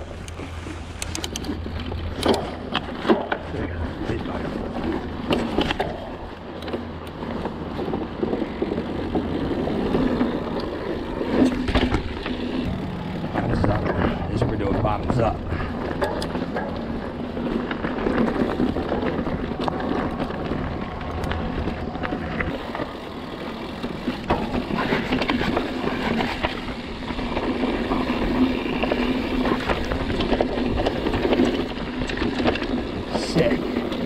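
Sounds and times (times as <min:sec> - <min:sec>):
bike rattling: 0:00.0 - 0:34.0
bike tyres rolling over stones: 0:00.0 - 0:34.0.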